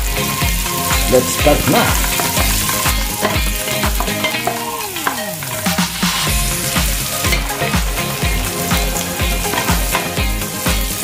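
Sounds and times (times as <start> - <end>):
background music with bass beat: 0.0 - 11.0
food sizzling in hot oil: 0.0 - 11.0.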